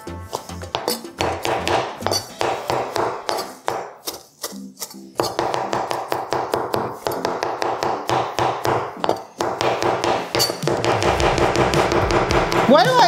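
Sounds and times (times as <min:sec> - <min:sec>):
background music: 0:00.0 - 0:13.0
knife chopping on cutting board: 0:00.3 - 0:13.0.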